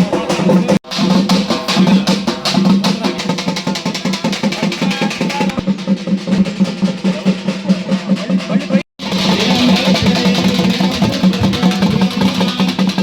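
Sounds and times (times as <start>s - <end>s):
fast dense drumming: 0.0s - 13.0s.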